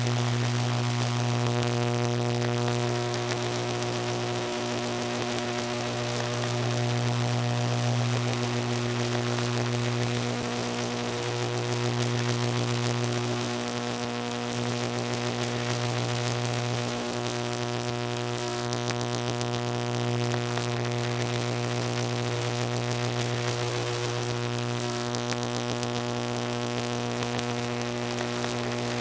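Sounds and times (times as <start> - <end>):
crackling hiss: 0.0 - 29.0
electrical buzz: 0.0 - 29.0.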